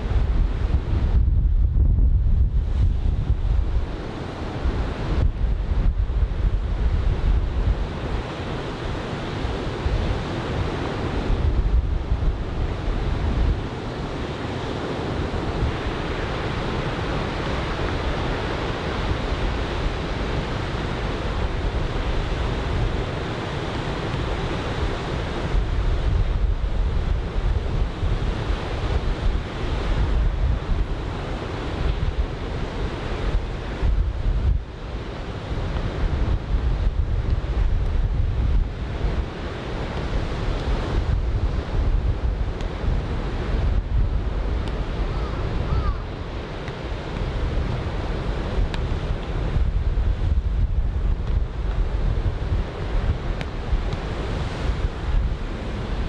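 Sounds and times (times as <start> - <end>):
surf washing along beach: 0.0 - 56.0
wind buffeting microphone: 0.0 - 56.0.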